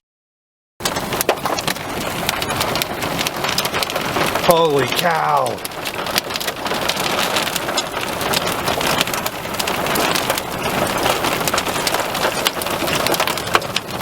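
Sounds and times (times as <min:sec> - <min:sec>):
heavy rain falling: 0:00.8 - 0:14.0
sharp raindrop hits: 0:00.8 - 0:14.0.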